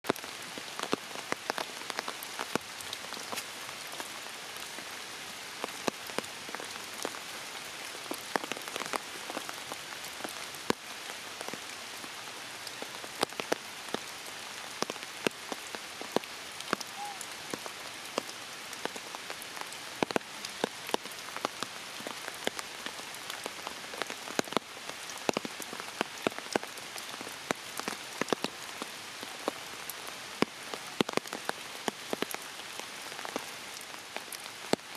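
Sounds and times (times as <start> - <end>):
raindrops striking close by: 0.0 - 34.9
steady rain: 0.0 - 34.9.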